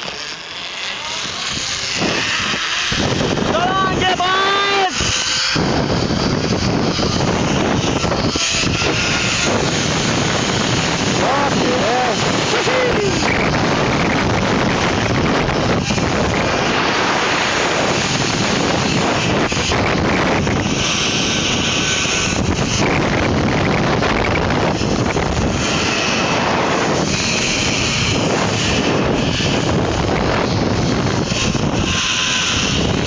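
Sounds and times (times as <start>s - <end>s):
pulley running along cable: 0.0s - 33.0s
wind rushing over microphone: 0.0s - 33.0s.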